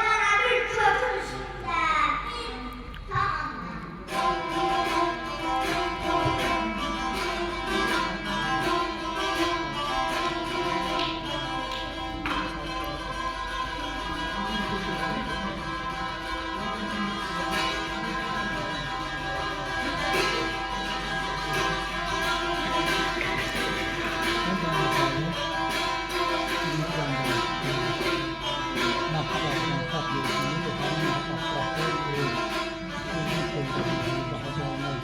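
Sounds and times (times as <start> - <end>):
plucked lute melody: 3.9 - 35.0
ringing drone strings: 4.1 - 35.0.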